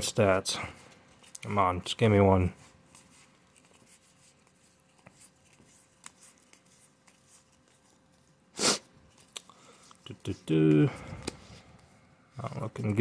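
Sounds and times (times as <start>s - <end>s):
paper cards rustling and ticking: 0.8s - 8.4s, 9.0s - 13.0s.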